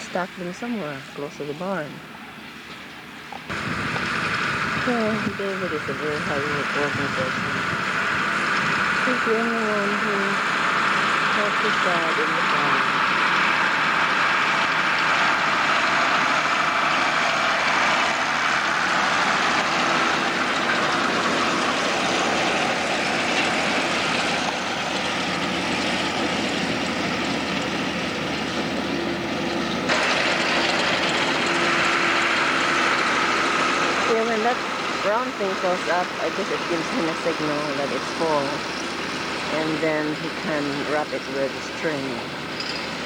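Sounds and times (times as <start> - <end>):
tractor engine running: 0.0 - 43.0
round baler rolling hay: 3.4 - 43.0.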